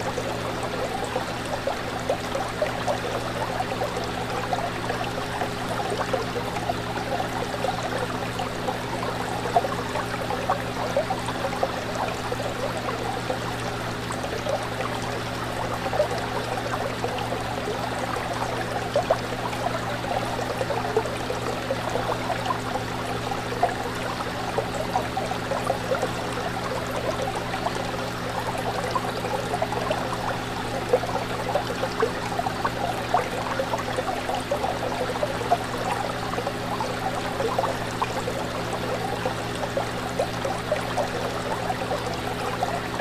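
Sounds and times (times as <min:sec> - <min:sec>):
fish tank water bubbling: 0:00.0 - 0:43.0.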